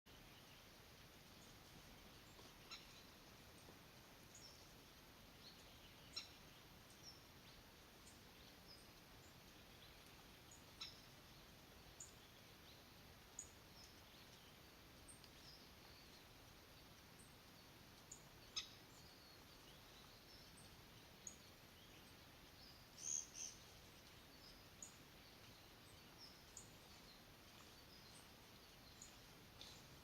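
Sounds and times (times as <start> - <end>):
steady background hiss: 0.1 - 30.0.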